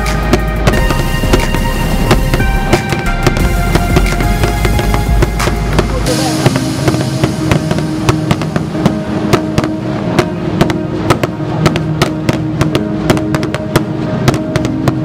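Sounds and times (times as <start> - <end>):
fireworks bangs and cracks: 0.0 - 15.0
music with long held notes: 0.0 - 15.0.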